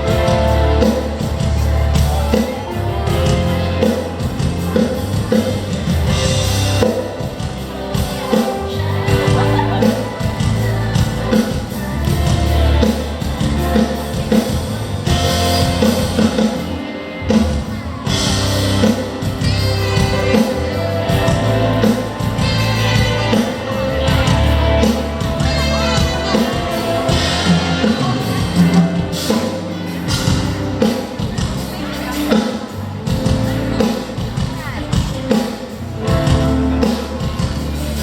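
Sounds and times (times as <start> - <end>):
amplified pop music with singer: 0.0 - 38.0.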